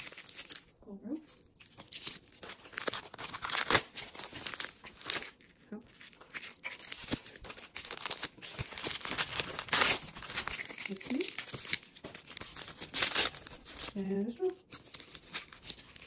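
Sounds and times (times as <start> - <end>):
plastic wrappers tearing and crinkling: 0.0 - 16.0.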